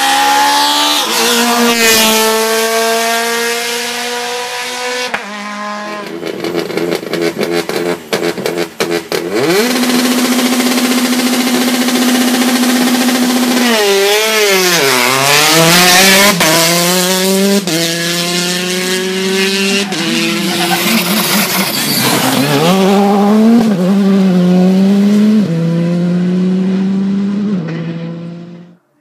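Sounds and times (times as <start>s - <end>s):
rally car engines revving: 0.0s - 28.8s.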